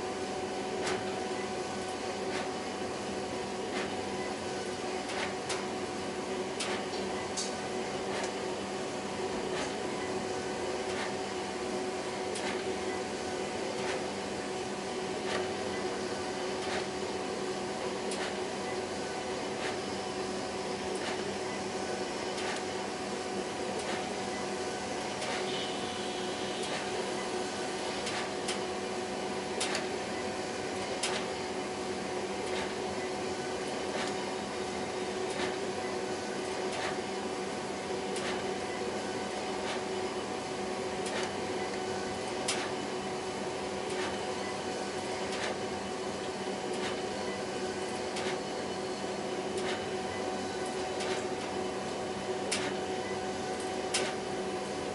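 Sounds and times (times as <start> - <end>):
printer whirring and humming: 0.0 - 54.9.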